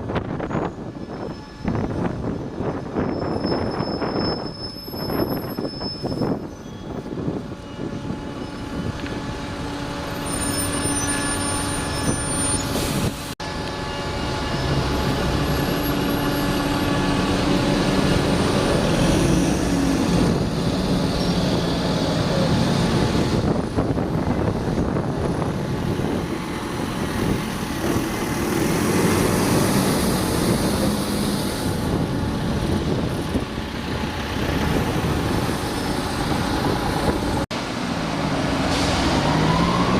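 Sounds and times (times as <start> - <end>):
street traffic: 0.0 - 39.9
bus engine running: 6.2 - 39.9.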